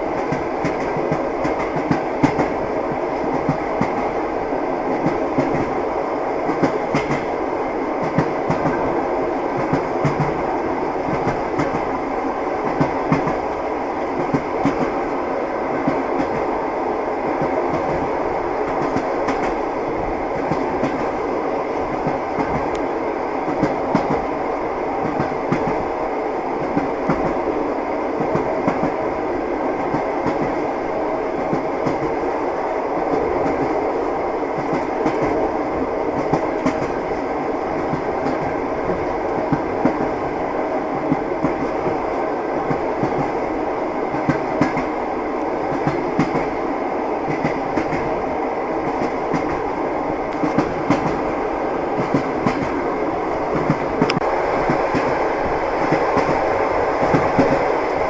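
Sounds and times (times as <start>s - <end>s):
train carriage rumble: 0.0s - 58.0s.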